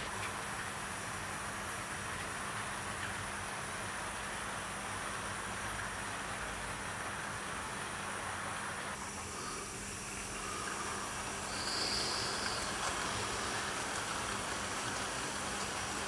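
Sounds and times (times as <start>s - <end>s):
faint steady hum: 0.0s - 16.0s
model trains whirring on rails: 0.0s - 16.0s.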